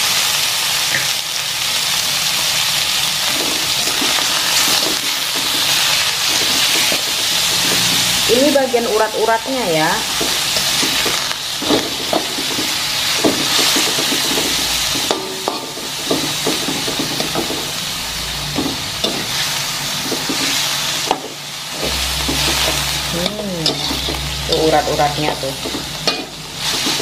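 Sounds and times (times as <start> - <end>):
meat sizzling in a wok: 0.0 - 27.0
metal spatula scraping pan: 3.3 - 27.0.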